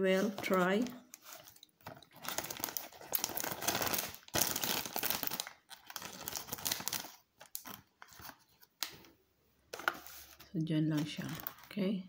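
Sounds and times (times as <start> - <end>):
plastic packaging crinkling: 0.1 - 9.1, 9.7 - 11.9.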